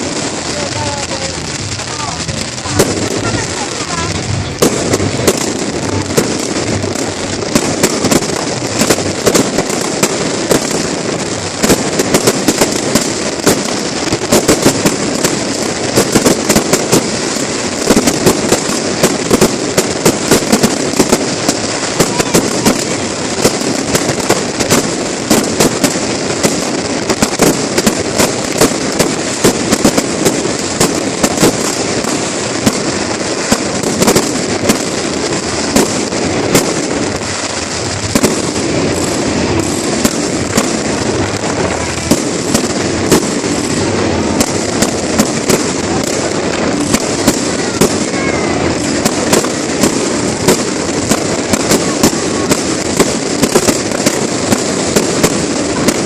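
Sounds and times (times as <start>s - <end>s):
fireworks bangs: 0.0s - 56.0s
fireworks crackling and rumbling: 0.0s - 56.0s.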